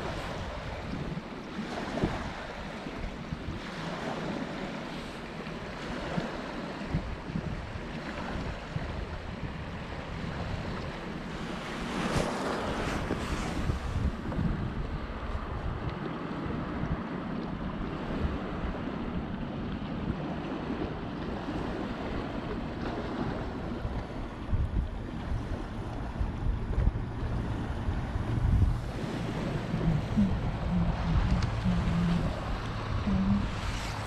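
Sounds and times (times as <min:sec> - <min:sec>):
wind gusting on microphone: 0:00.0 - 0:04.9, 0:05.6 - 0:34.0
waves lapping on rocks: 0:00.0 - 0:34.0.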